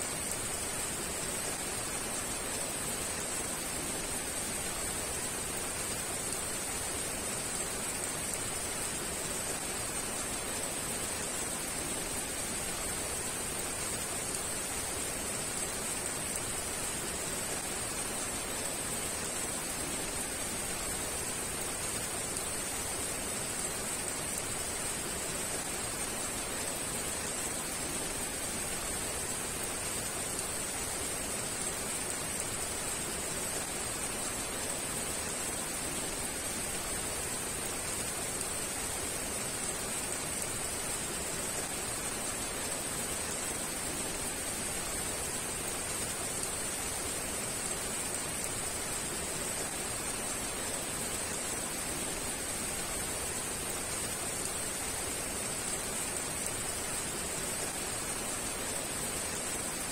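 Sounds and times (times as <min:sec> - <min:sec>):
heavy rain falling: 0:00.1 - 0:59.9.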